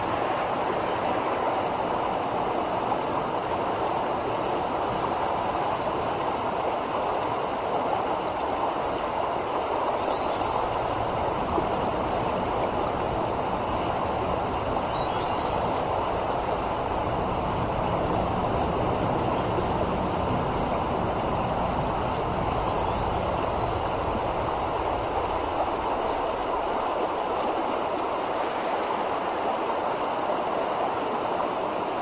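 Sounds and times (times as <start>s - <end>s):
river rapids rushing over rocks: 0.0s - 32.0s.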